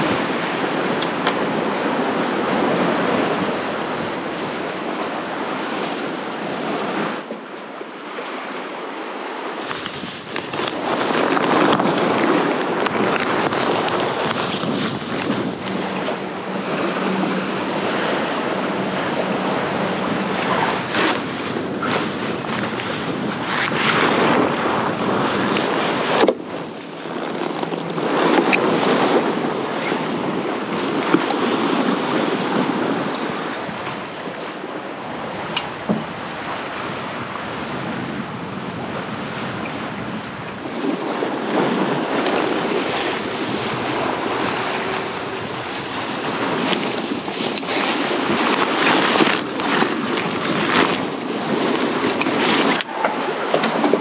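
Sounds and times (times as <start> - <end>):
waves rushing along boat hull: 0.0 - 54.0
wind buffeting microphone: 0.0 - 54.0.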